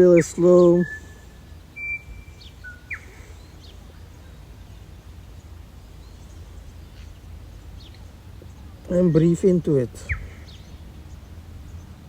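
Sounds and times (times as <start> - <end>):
birds whistling and chirping: 0.0 - 12.0
low outdoor rumble: 0.0 - 12.0.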